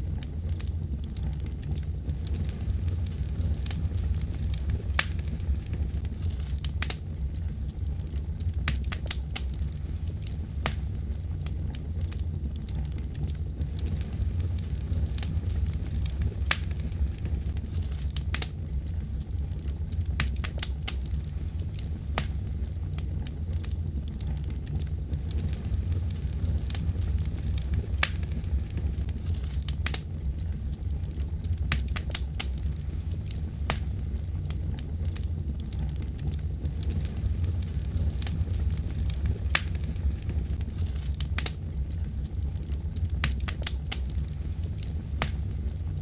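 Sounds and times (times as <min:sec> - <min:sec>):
fire crackling: 0:00.0 - 0:46.0
low rumble: 0:00.0 - 0:46.0.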